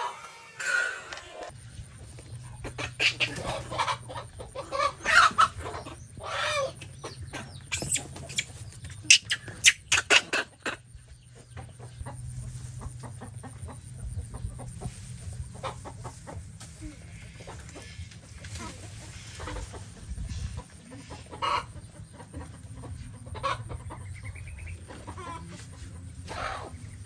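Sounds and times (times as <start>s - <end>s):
hen clucking: 2.2s - 27.0s.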